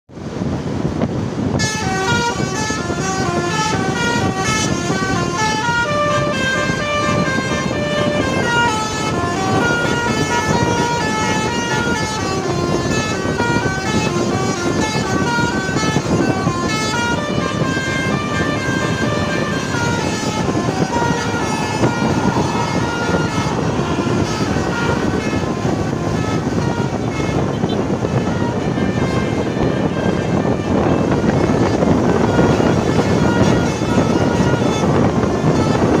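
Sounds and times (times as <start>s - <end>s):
multi-tone bus horn melody: 0.2s - 36.0s
steady low rumble: 0.3s - 36.0s.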